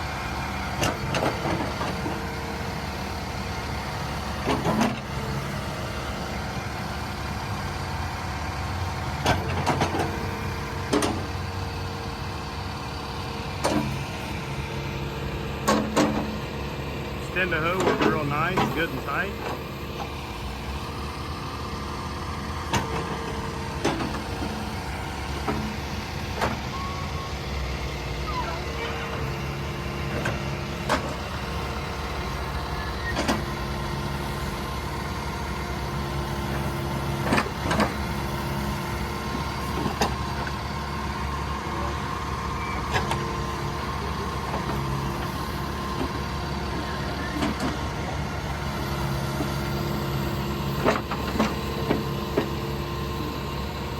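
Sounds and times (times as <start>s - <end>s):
backhoe diesel engine running: 0.0s - 53.9s.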